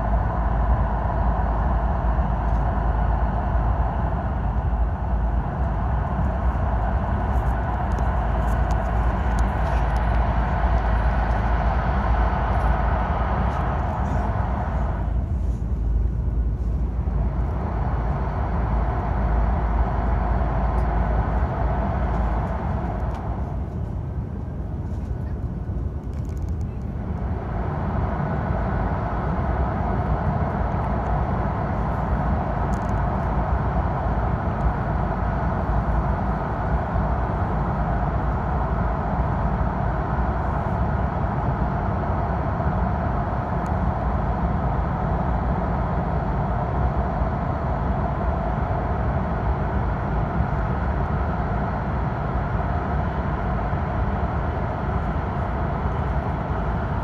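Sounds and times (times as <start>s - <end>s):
train rumble in tunnel: 0.0s - 57.0s.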